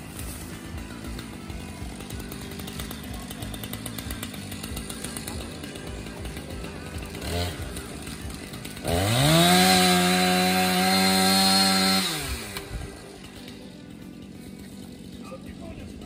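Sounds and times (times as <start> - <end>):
chainsaw revving and cutting wood: 0.0 - 16.0.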